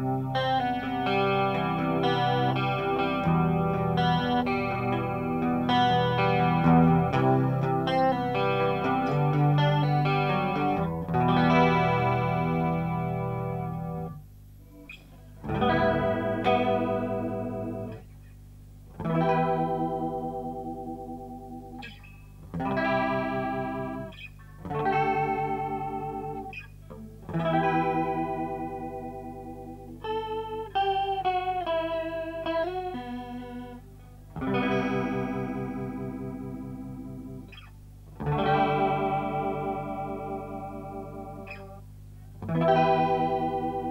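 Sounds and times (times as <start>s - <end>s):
electric guitar with chorus effect: 0.0s - 43.9s.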